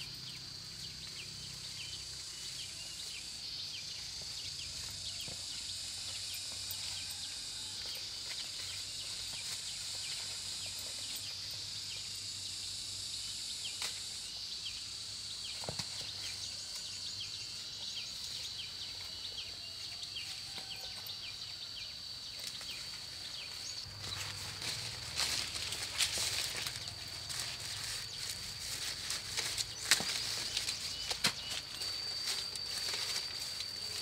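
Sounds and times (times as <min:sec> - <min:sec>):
insects droning: 0:00.0 - 0:34.0
short insect chirps: 0:00.0 - 0:34.0.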